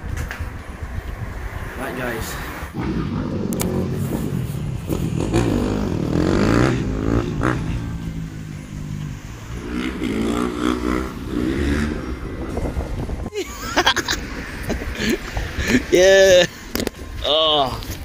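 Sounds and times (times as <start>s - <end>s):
low traffic rumble: 0.0s - 18.0s
vehicles passing: 0.0s - 18.0s.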